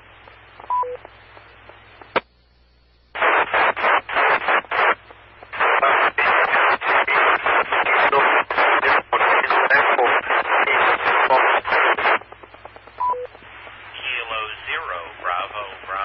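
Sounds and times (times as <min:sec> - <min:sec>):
chopping radio static: 0:00.0 - 0:02.4, 0:03.1 - 0:16.0.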